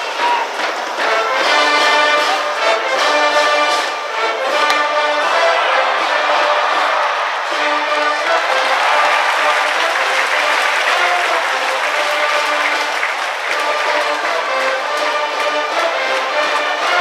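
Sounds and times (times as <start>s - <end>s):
brass band playing: 0.0s - 17.0s
crowd clapping: 0.0s - 17.0s.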